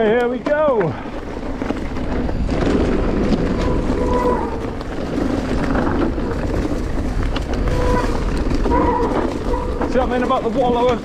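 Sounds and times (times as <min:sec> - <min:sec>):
bike tyres rolling on dirt trail: 0:00.0 - 0:11.0
wind noise: 0:00.0 - 0:11.0
disc brakes howling: 0:01.0 - 0:10.9.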